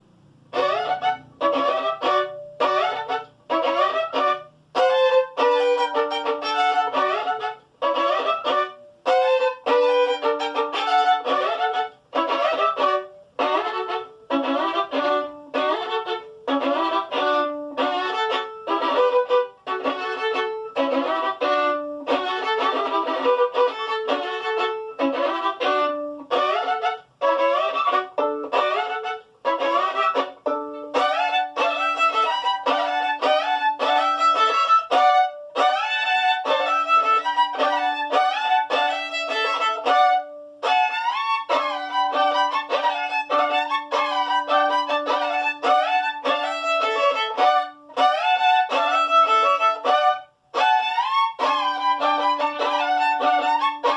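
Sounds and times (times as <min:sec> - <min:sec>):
solo violin folk melody: 0:00.0 - 0:53.9.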